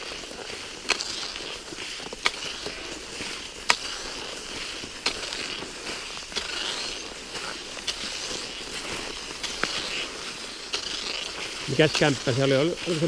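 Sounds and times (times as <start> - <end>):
ski poles clicking into snow: 0.0 - 13.0
skis gliding on snow: 0.0 - 13.0.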